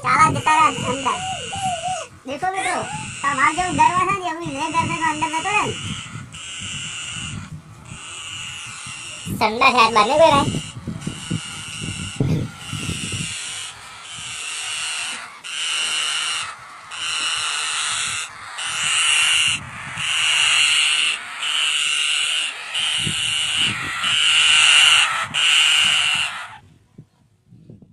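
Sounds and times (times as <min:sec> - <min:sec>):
parrot chicks calling harshly: 0:00.0 - 0:26.6.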